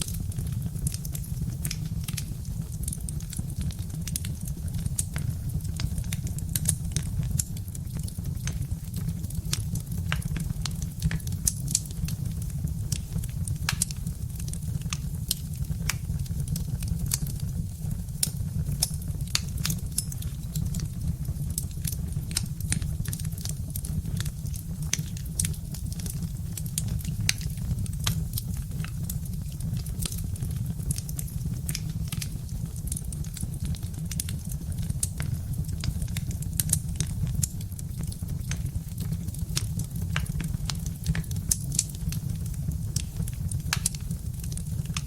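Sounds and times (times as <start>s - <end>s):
low fire rumble: 0.0s - 45.0s
wood fire crackling: 0.0s - 45.0s.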